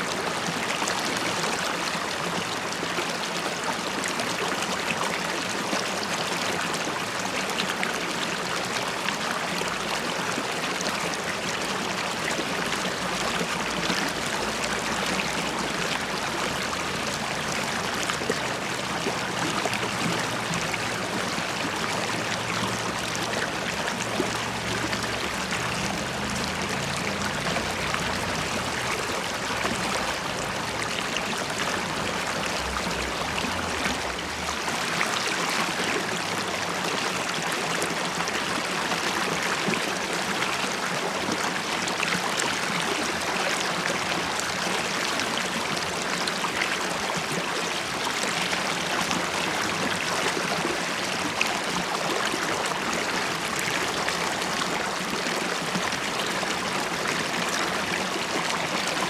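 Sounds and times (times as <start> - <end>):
river water flowing and bubbling: 0.0 - 59.0.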